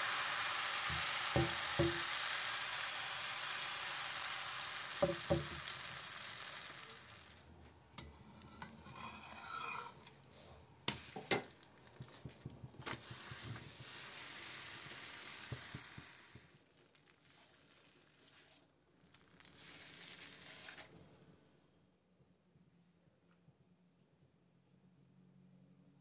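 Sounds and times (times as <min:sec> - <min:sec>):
batter sizzling in frying pan: 0:00.0 - 0:20.9.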